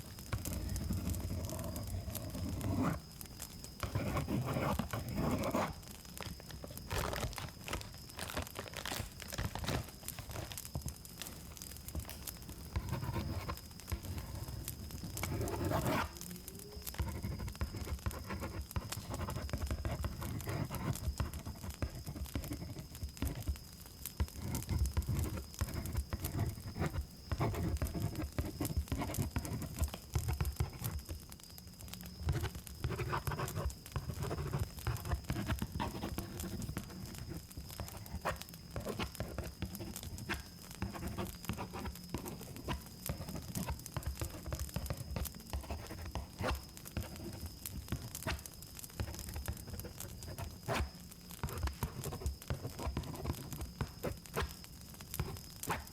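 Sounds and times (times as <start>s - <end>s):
cricket trill: 0.0s - 55.9s.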